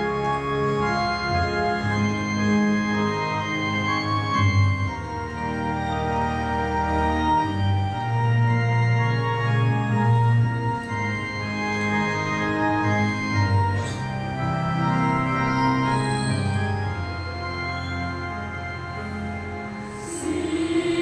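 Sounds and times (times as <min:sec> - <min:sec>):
organ music with held chords: 0:00.0 - 0:21.0.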